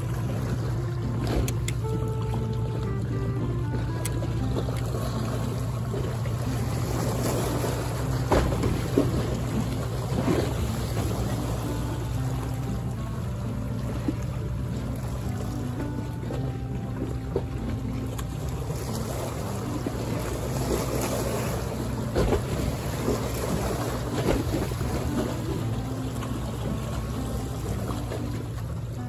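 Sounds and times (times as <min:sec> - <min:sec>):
quiet background music: 0:00.0 - 0:29.0
water sloshing against quay wall: 0:03.7 - 0:29.0.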